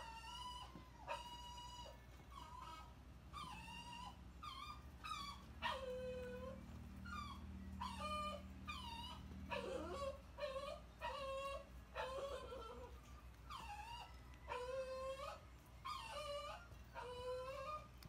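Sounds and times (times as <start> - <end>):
puppies whining and yipping: 0.0 - 18.0.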